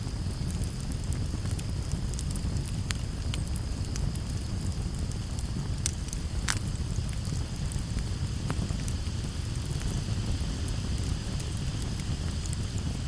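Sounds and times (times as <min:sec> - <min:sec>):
campfire flames rumbling: 0:00.0 - 0:13.0
fire crackling and popping: 0:00.0 - 0:13.0.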